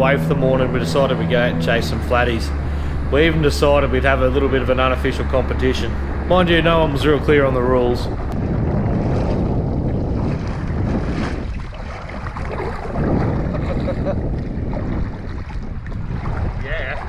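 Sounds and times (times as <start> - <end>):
water: 0.0 - 17.0
wind buffeting microphone: 0.0 - 17.0.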